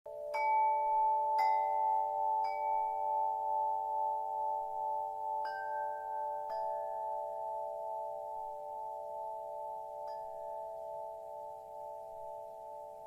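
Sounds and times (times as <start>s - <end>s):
wind chime ringing: 0.1s - 13.0s.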